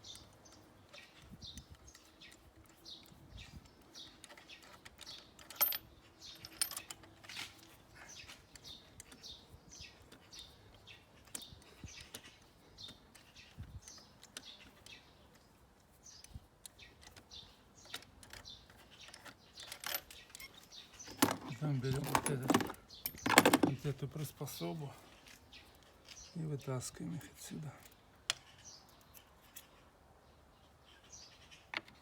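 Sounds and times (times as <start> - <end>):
small bird chirping: 0.0 - 32.0.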